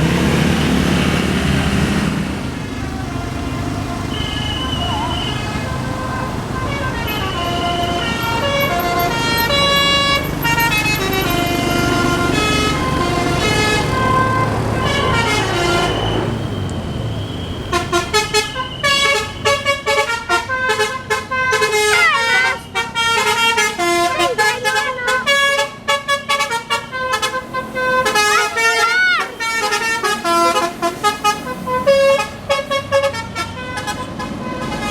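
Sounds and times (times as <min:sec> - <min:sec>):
bus engine running: 0:00.0 - 0:34.9
multi-tone bus horn playing a tune: 0:02.9 - 0:34.9.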